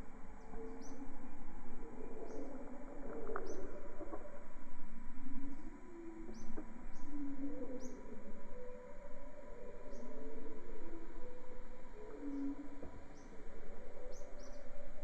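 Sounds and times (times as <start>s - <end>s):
faint steady whine: 0.0s - 15.0s
lower wavering bird calls: 0.4s - 4.1s, 5.2s - 15.0s.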